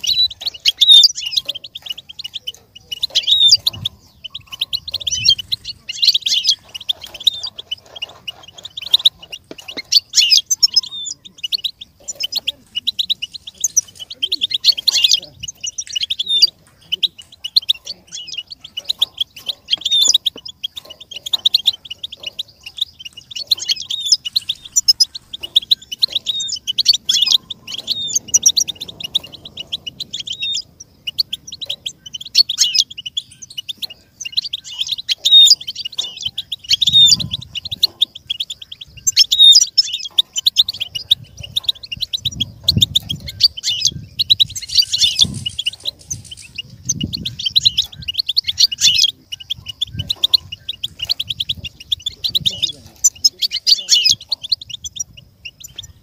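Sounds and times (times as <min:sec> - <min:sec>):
goldfinch twittering: 0:00.0 - 0:56.0.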